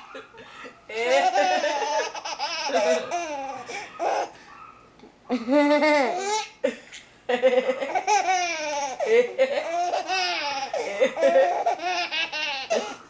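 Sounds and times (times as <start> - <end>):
baby laughing: 0.0 - 4.4, 5.3 - 6.6, 7.5 - 13.0.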